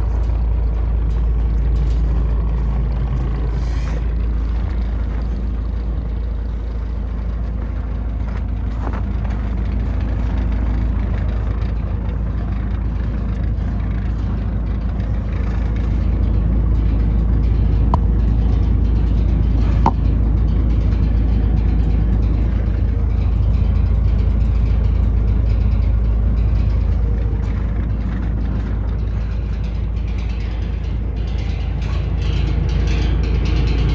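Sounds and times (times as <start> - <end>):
truck diesel engine idling: 0.0 - 33.9.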